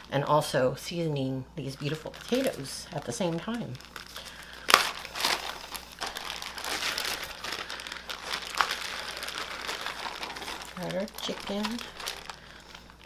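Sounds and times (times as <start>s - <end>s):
plastic bag crinkling: 1.6s - 13.0s.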